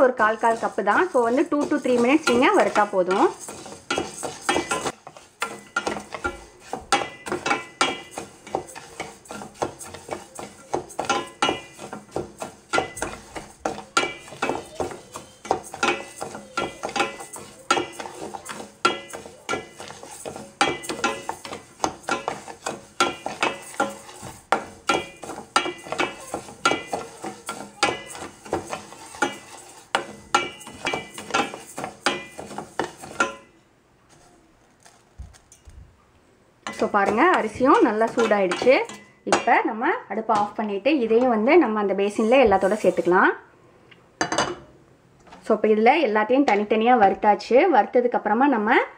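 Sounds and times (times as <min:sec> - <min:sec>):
spatula stirring rice in a pan: 0:00.0 - 0:35.1, 0:36.6 - 0:43.2.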